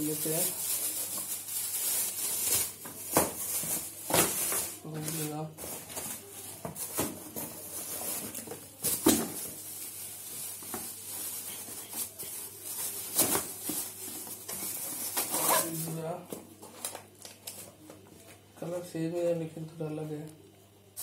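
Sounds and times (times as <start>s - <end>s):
plastic wrapping crinkling: 0.0s - 17.7s.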